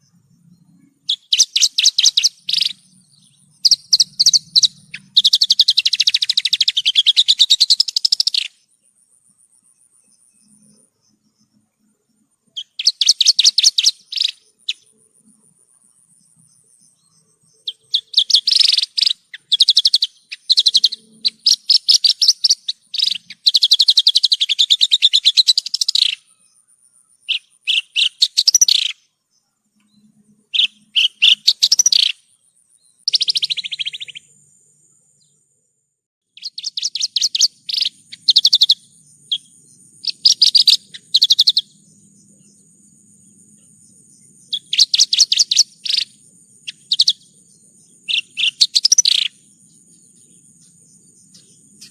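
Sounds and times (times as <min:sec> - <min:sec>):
bird singing rattling phrases: 0:00.0 - 0:08.7, 0:10.0 - 0:15.0, 0:16.2 - 0:35.4, 0:36.4 - 0:51.9
faint high-pitched whine: 0:00.0 - 0:51.9.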